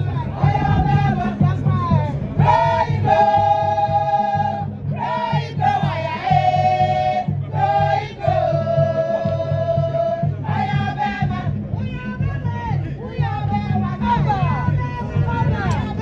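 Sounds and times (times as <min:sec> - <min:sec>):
people singing long notes: 0:00.0 - 0:16.0
steady low beat: 0:00.0 - 0:16.0.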